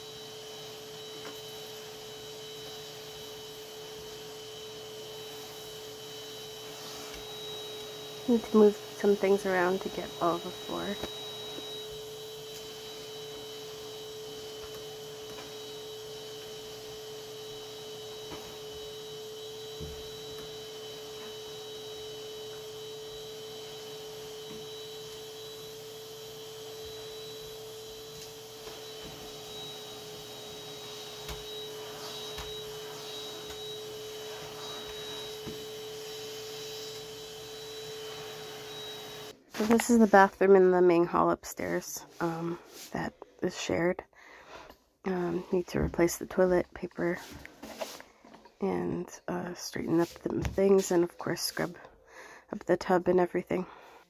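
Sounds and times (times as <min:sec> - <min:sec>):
vacuum cleaner running on carpet: 0:00.0 - 0:43.9, 0:45.1 - 0:48.0, 0:49.4 - 0:51.8.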